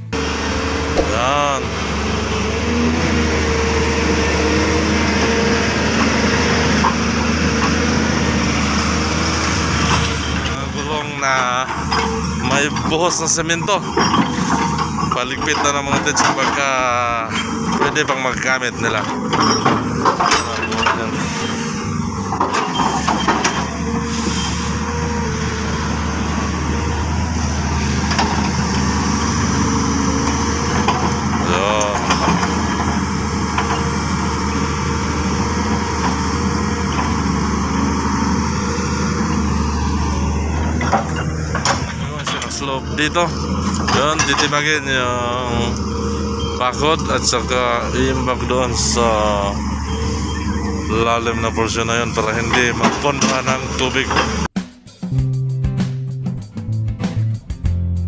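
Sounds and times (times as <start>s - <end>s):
excavator diesel engine running: 0.0s - 54.6s.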